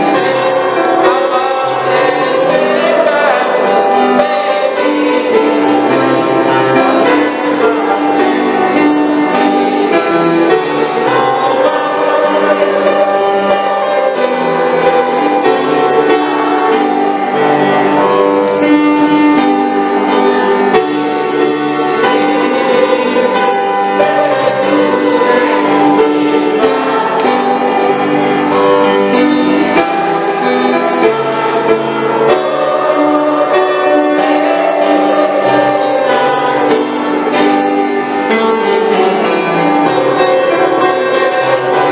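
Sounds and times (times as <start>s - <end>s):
music with sustained chords: 0.0s - 41.9s.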